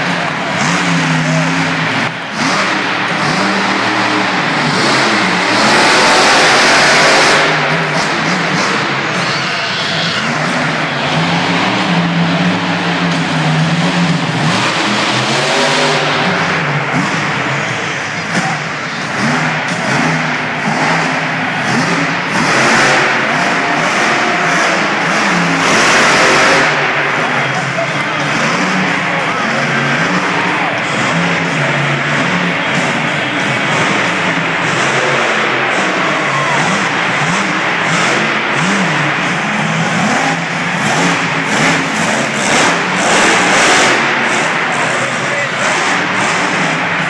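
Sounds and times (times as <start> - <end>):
dense haze of noise: 0.0 - 47.0
monster truck engine revving: 0.0 - 47.0.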